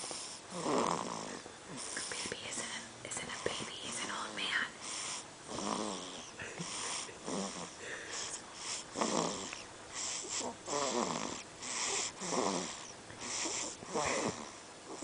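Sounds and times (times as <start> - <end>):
person snoring: 0.0 - 2.0, 4.9 - 15.0.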